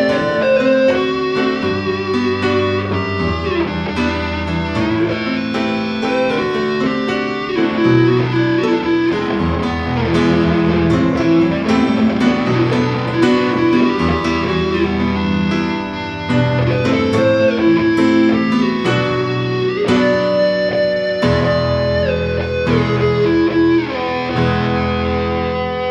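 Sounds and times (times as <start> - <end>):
electric guitar solo: 0.0 - 25.9.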